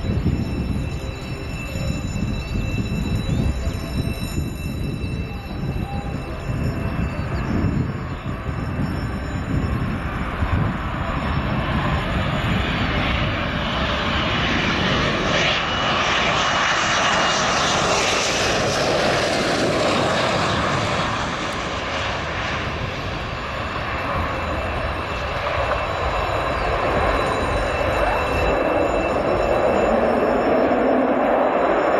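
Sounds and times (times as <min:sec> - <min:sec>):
jet engine noise: 0:00.0 - 0:31.9.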